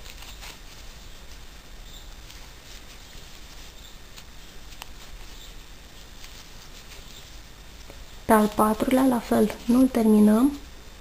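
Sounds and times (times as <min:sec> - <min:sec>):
crochet hook scratching yarn: 0:00.0 - 0:10.1
steady background hiss: 0:00.0 - 0:11.0.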